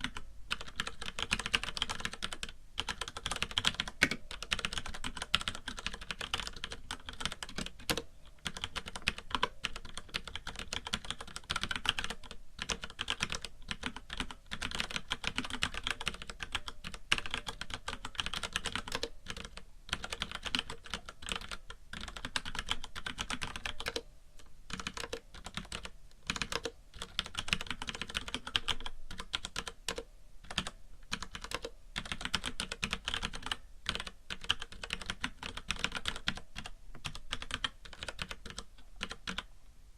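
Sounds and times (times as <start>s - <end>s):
mechanical keyboard typing: 0.0s - 24.0s, 24.7s - 39.5s
faint white noise hiss: 0.0s - 39.9s.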